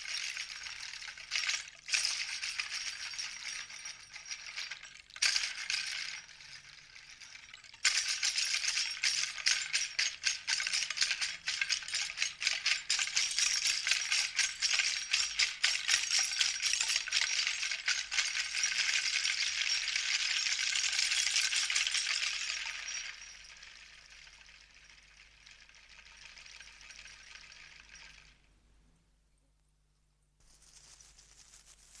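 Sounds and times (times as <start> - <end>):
hand rattle shaking: 0.0 - 28.4, 30.4 - 32.0.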